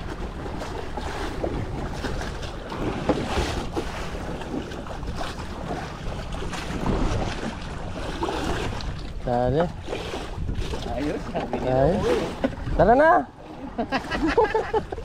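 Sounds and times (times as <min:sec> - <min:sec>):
wind buffeting microphone: 0:00.0 - 0:13.2
waves splashing against boat: 0:00.0 - 0:15.0.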